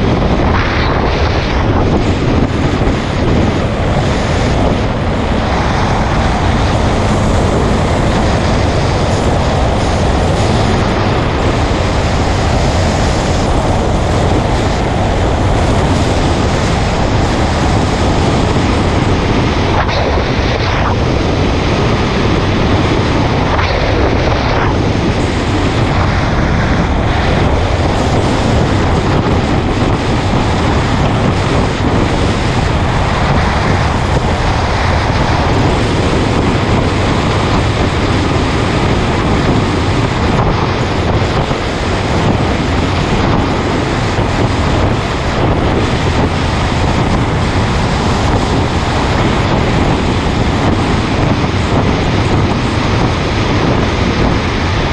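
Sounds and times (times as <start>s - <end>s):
motorcycle engine cruising: 0.0s - 54.8s
tyre noise on road: 0.0s - 54.9s
wind buffeting microphone: 0.0s - 54.9s.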